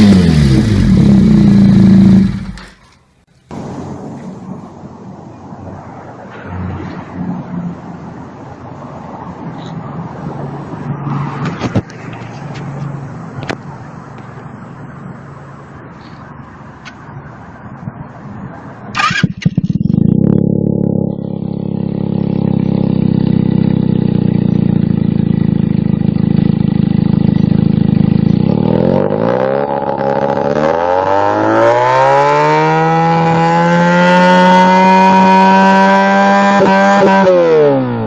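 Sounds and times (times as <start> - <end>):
motorcycle engine idling and revving: 0.0 - 3.1, 10.6 - 38.0.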